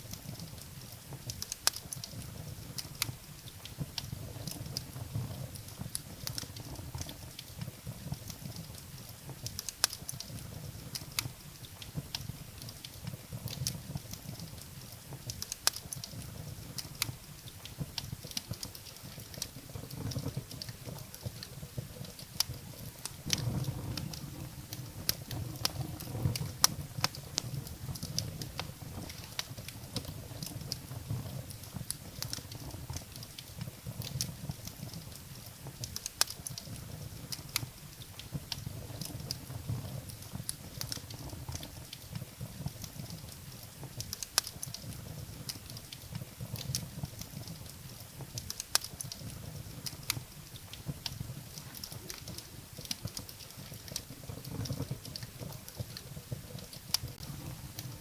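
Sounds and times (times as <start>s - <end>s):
fire flames rumbling: 0.0s - 58.0s
firewood crackling and popping: 0.0s - 58.0s.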